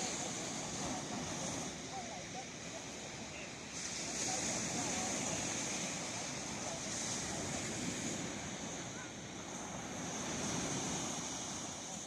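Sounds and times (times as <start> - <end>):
sea waves washing onto shore: 0.0 - 12.0
wind: 0.0 - 12.0.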